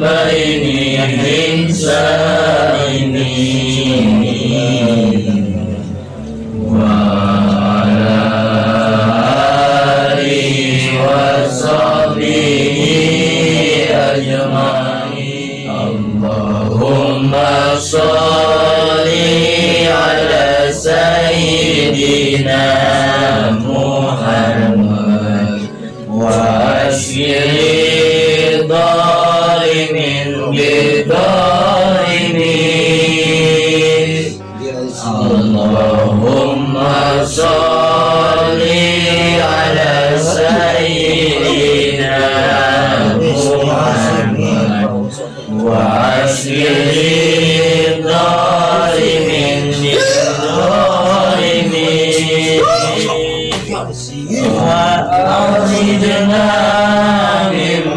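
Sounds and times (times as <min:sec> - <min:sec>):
men chanting prayers: 0:00.0 - 0:57.9.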